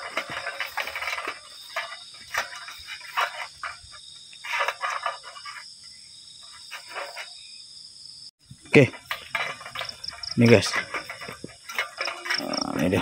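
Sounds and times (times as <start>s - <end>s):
irregular rustling: 0.0s - 7.4s, 8.5s - 13.0s
crickets trilling: 0.0s - 13.0s.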